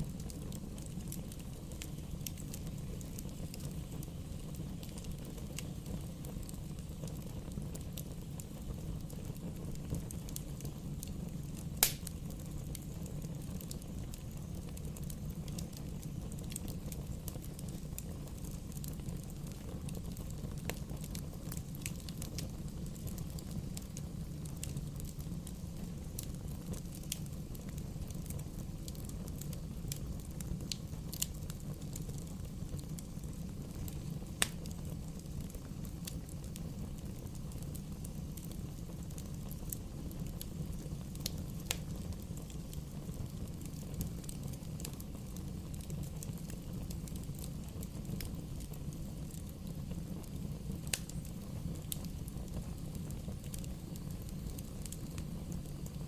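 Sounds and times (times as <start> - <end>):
rush of flames: 0.0 - 56.0
wood crackling and popping: 0.0 - 56.0.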